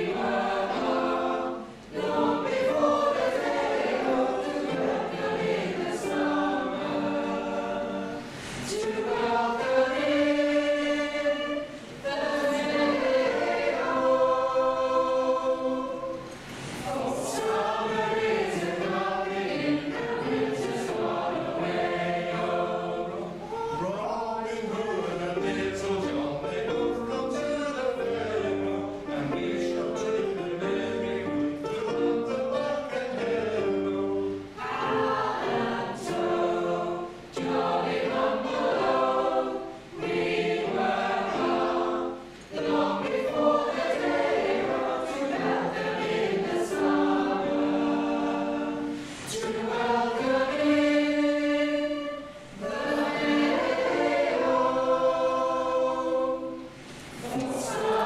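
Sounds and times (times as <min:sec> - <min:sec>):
mixed choir singing folk song: 0:00.0 - 0:58.0.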